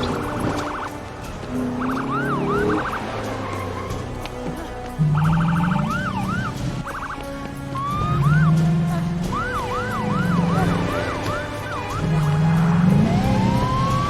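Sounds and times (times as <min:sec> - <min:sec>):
rapid pulsing siren warble: 0:00.0 - 0:03.9, 0:05.0 - 0:14.0
emergency sirens wailing: 0:00.0 - 0:14.0.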